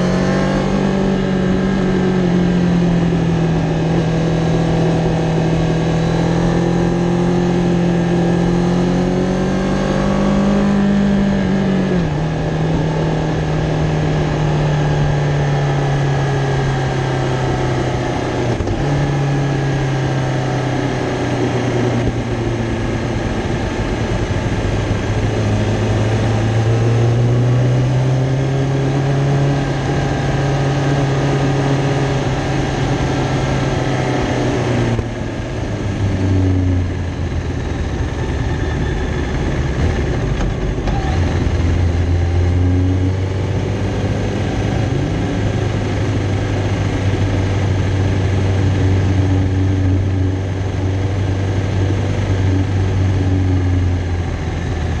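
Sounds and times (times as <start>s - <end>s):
motorcycle engine at low revs: 0.0s - 55.0s
wind noise: 0.0s - 55.0s.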